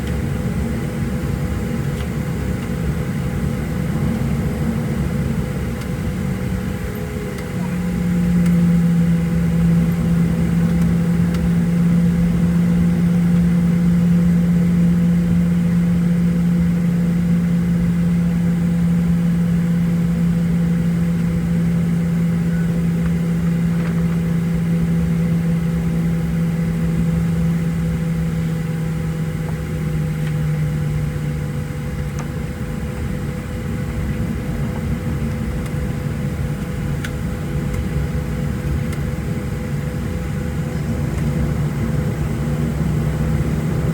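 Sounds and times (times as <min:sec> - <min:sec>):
aircraft cabin drone: 0:00.0 - 0:43.9.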